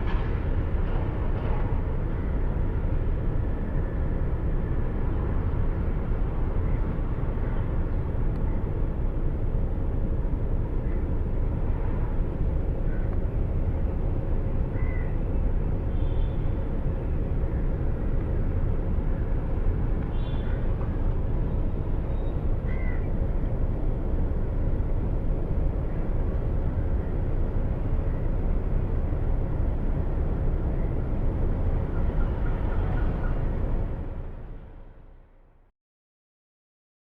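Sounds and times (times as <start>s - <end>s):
low outdoor rumble: 0.0s - 35.7s.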